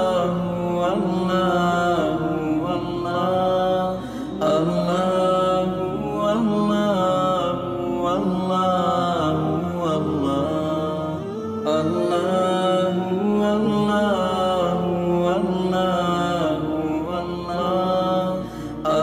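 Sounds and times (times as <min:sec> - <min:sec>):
person chanting long sliding notes: 0:00.0 - 0:19.0.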